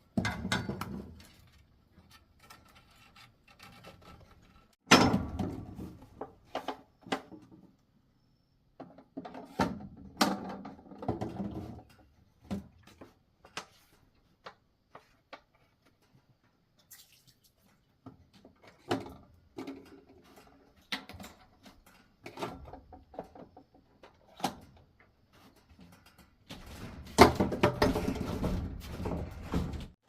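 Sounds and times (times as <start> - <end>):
knocks and clatter of objects: 0.0 - 7.7, 8.8 - 16.2, 18.1 - 30.0.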